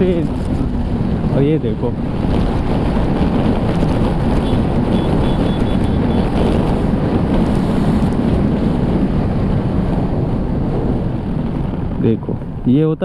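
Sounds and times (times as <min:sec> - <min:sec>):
motorcycle engine: 0:00.0 - 0:10.9
wind rushing over microphone: 0:00.0 - 0:13.0.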